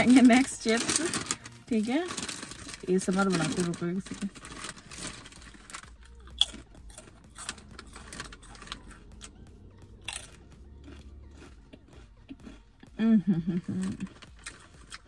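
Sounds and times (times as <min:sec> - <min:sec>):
potato chips crunching: 0:00.0 - 0:15.0.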